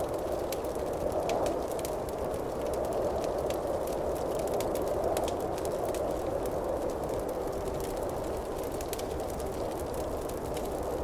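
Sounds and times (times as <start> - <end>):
campfire crackles and pops: 0.0 - 11.0.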